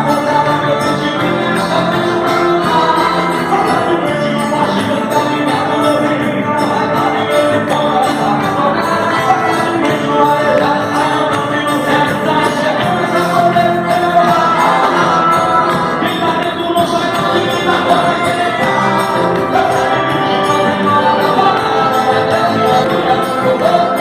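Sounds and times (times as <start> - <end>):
band playing praise music: 0.0 - 24.0.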